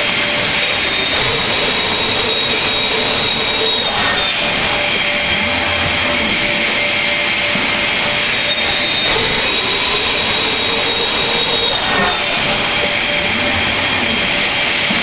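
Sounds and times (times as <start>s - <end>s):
panel-cutting machine running: 0.0s - 15.0s.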